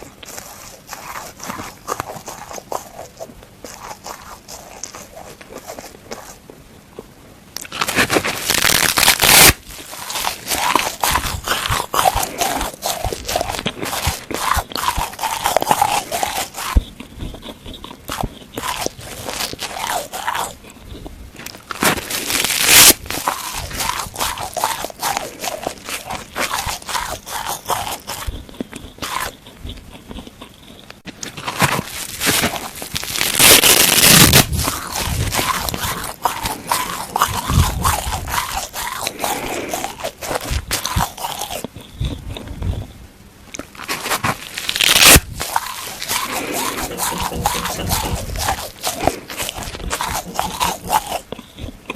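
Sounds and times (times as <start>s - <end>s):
sponge being chewed: 0.0s - 51.9s.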